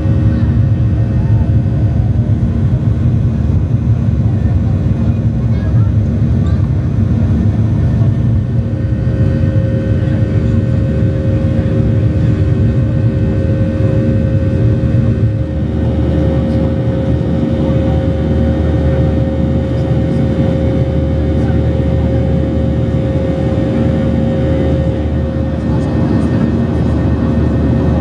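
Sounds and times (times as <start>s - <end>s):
airplane engines and airflow droning: 0.0s - 28.0s.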